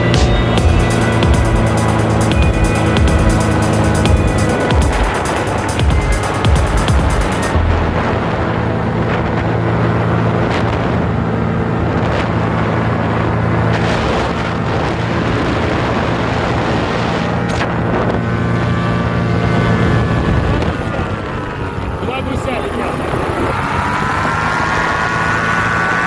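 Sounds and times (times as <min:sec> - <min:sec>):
paramotor engine and propeller: 0:00.0 - 0:26.0.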